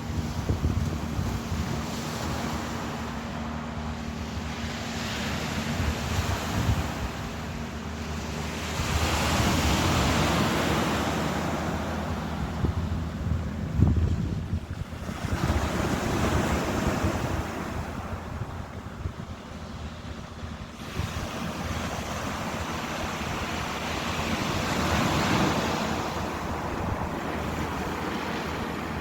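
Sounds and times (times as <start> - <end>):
waves breaking and washing in: 0.0 - 29.0.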